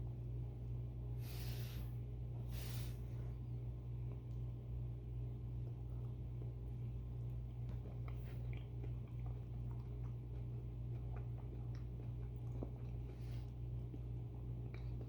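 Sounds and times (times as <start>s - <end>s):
steady low hum: 0.0s - 15.0s
soft chewing: 1.2s - 15.0s.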